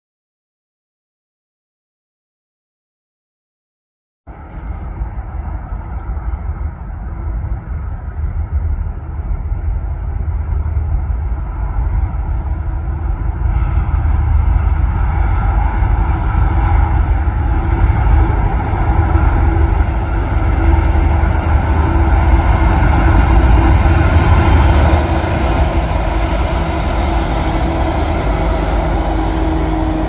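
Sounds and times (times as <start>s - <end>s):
diesel locomotive engine rumble: 4.3s - 30.0s.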